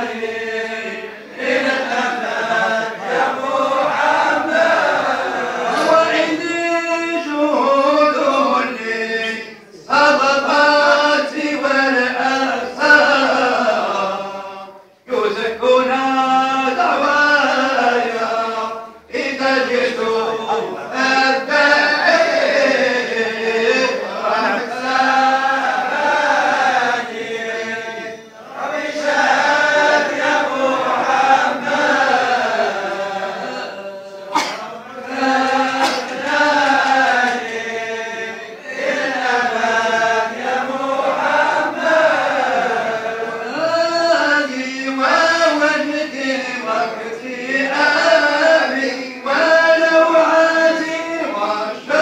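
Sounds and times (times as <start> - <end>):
men chanting together: 0.0 - 52.0.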